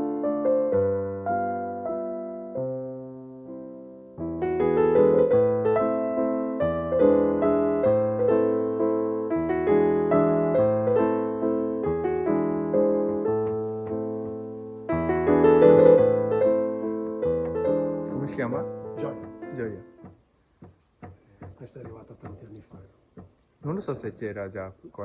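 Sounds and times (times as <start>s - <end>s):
gentle piano music: 0.0s - 20.3s.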